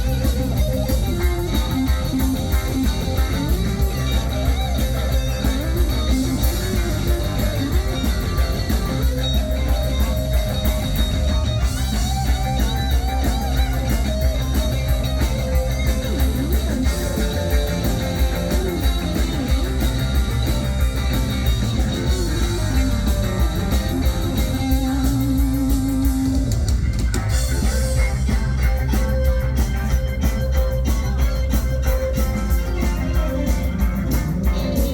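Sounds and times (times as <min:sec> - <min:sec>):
electric guitar lead bending notes: 0:00.0 - 0:34.9
live band playing: 0:00.0 - 0:34.9.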